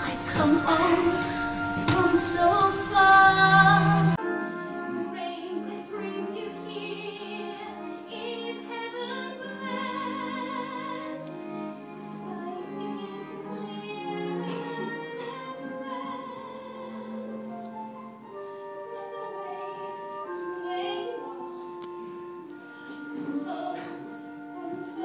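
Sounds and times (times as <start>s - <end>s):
woman singing a ballad with vibrato: 0.0s - 11.2s, 12.0s - 17.6s, 18.7s - 21.7s, 23.0s - 25.0s
instrumental accompaniment: 0.0s - 25.0s.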